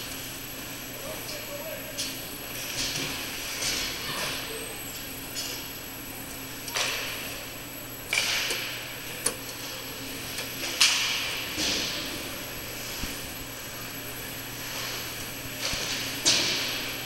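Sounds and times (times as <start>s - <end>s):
vending machines humming: 0.0s - 17.0s.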